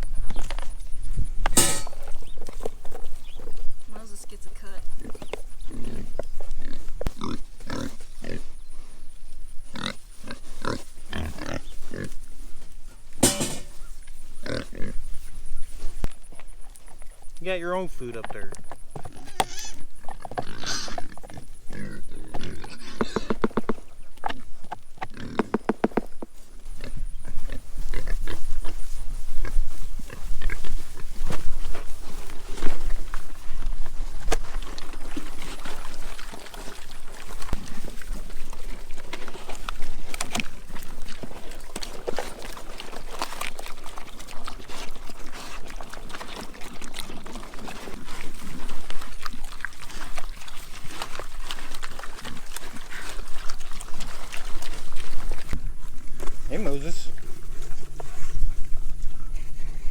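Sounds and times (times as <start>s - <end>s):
pigs chomping food: 0.0s - 59.9s
pigs grunting: 4.0s - 12.4s, 13.2s - 15.3s, 16.3s - 59.9s.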